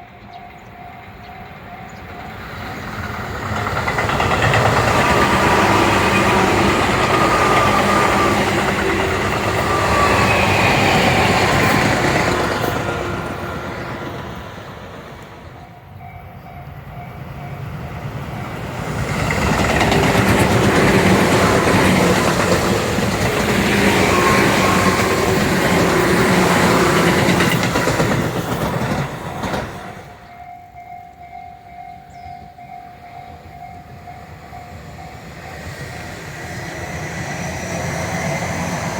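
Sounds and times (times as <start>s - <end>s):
electric trains passing: 0.0s - 38.9s.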